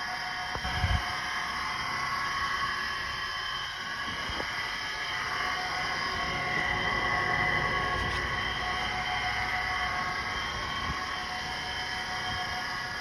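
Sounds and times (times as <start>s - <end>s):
alternator whining: 0.0s - 13.0s.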